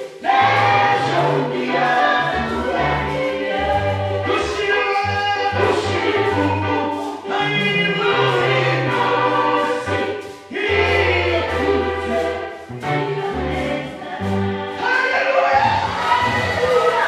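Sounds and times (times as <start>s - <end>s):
group of singers: 0.0s - 17.0s
lead singer: 0.0s - 17.0s
low bass notes: 0.3s - 14.8s.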